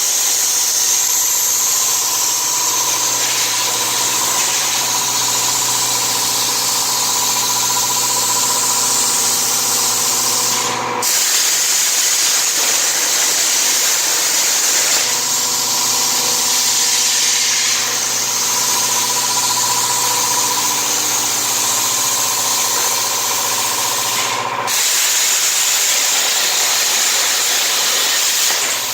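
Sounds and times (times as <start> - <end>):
plasma cutter hissing: 0.0 - 28.9
machine hum: 0.2 - 24.9.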